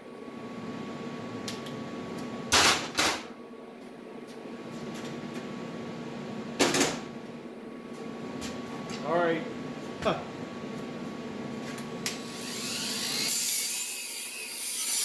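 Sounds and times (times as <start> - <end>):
steady hum: 0.0 - 14.6.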